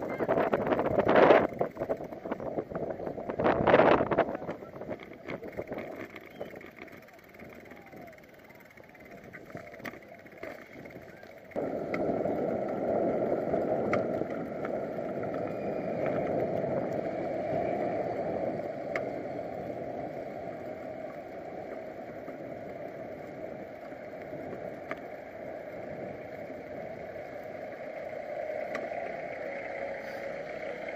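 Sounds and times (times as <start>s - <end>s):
scattered ticks: 0.0s - 30.9s
wind and road rumble from bicycle: 0.0s - 30.9s.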